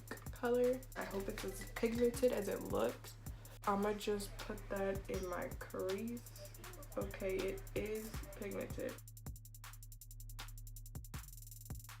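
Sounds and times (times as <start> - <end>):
hi-hat ticks: 0.0 - 3.7, 4.3 - 12.0.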